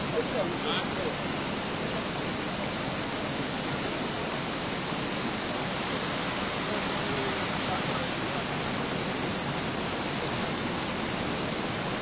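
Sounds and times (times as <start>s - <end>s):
river rushing with broken ice: 0.0s - 12.0s.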